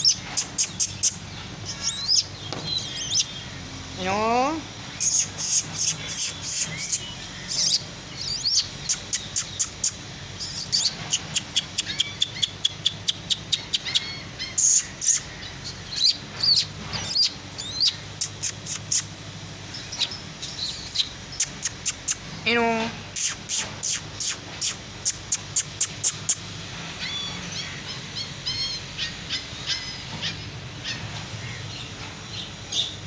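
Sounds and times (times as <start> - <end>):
caged birds chirping: 0.0 - 33.0.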